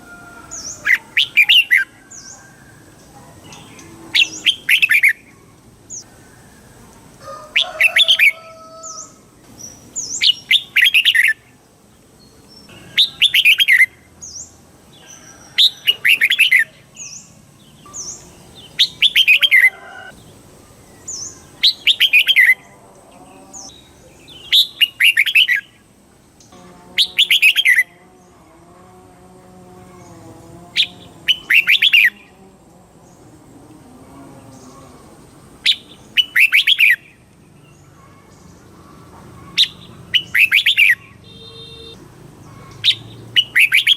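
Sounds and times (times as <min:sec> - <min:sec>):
bird warbling song: 0:00.0 - 0:06.8, 0:07.6 - 0:11.6, 0:12.2 - 0:28.4, 0:29.8 - 0:32.4, 0:34.4 - 0:43.9.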